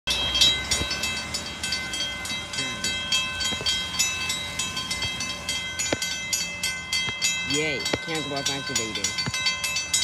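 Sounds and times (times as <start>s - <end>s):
railroad crossing bell ringing: 0.1s - 10.0s.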